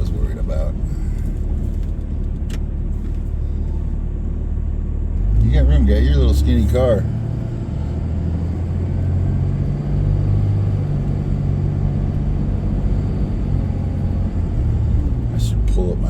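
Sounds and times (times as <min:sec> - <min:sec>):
truck engine rumble: 0:00.0 - 0:16.0.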